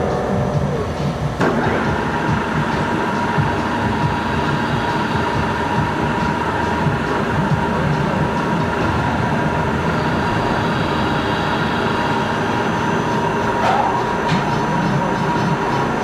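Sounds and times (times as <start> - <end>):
lathe whine and rumble: 0.0 - 16.0.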